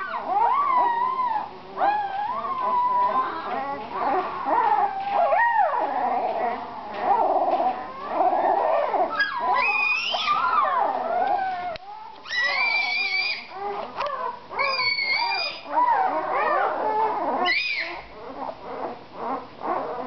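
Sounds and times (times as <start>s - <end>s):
high-pitched puppy squeals: 0.0s - 20.0s
puppies whining and howling: 0.0s - 20.0s.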